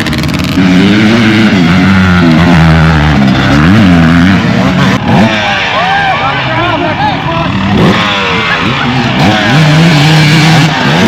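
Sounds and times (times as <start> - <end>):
racing vehicle engine revving: 0.0 - 11.0.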